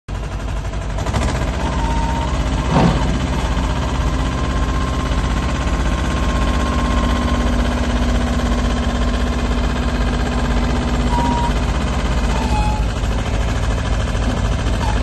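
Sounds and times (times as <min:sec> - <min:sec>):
diesel engine chugging: 0:00.1 - 0:15.0
hydraulic whine: 0:01.1 - 0:15.0.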